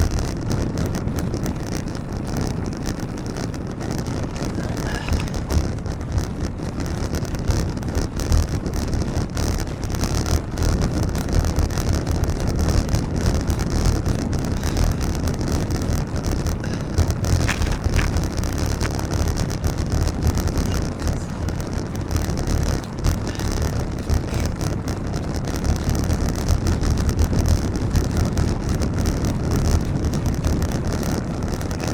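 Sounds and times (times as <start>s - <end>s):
road noise: 0.0s - 31.9s
wind buffeting microphone: 0.0s - 31.9s.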